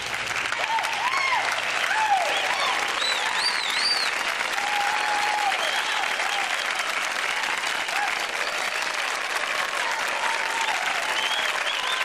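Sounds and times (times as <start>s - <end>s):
audience applauding and cheering: 0.0s - 12.0s
whoops: 0.5s - 12.0s.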